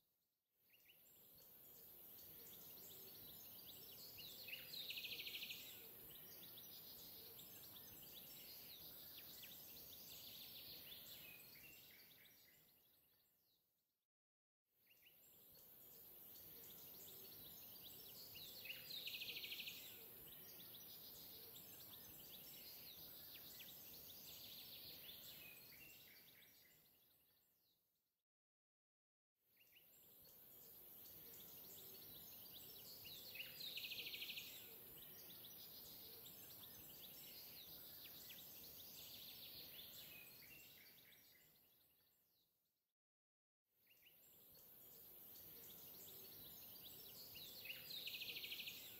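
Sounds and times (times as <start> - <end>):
faint bird chirps: 0.7 - 13.7, 14.8 - 27.7, 29.6 - 42.5, 43.8 - 48.9.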